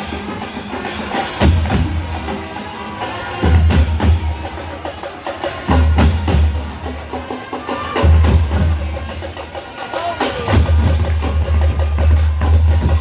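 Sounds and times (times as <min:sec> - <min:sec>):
sharp drum and wood-block strikes: 0:00.0 - 0:13.0.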